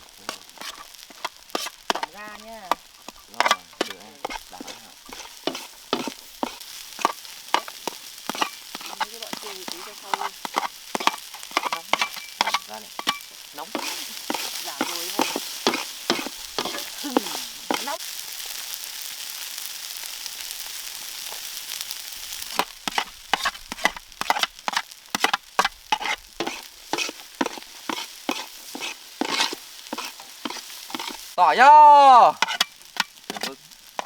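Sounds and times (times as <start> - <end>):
spatula scraping and tapping a pan: 0.0 - 18.0, 22.3 - 31.4, 32.3 - 34.0
food sizzling in a pan: 0.0 - 34.0.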